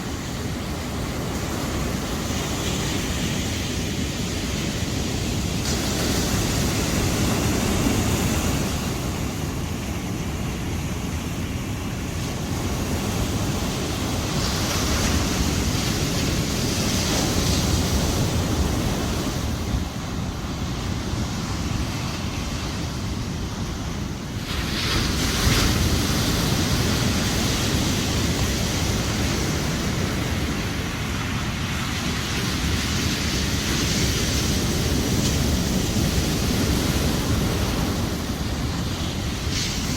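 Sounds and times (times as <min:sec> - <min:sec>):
waves washing onto a beach: 0:00.0 - 0:39.9.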